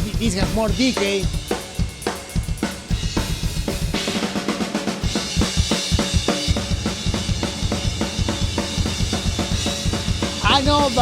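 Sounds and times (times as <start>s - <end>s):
cymbals: 0.0s - 11.0s
fast bass drum hits: 0.0s - 11.0s.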